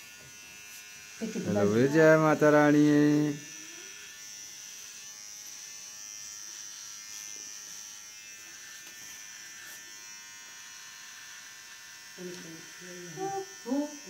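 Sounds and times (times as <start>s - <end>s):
electric hair trimmer buzzing: 0.0s - 14.0s.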